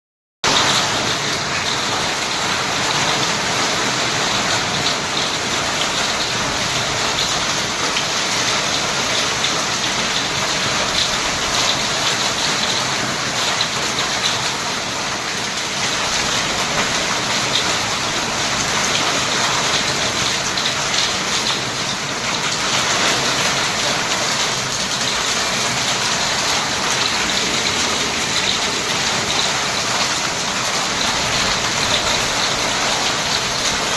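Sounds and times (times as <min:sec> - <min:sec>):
hail ticking on surfaces: 0:00.4 - 0:33.9
rain falling: 0:00.4 - 0:33.9.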